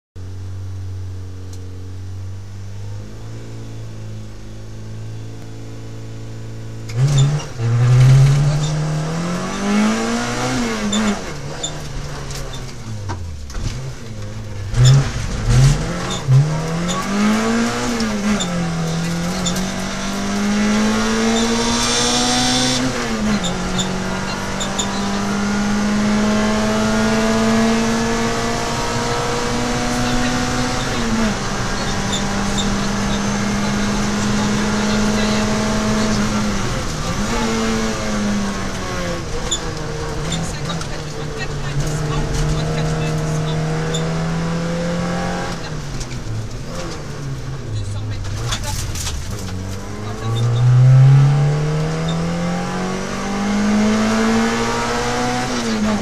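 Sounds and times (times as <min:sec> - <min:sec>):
car engine accelerating: 0:00.2 - 0:56.0.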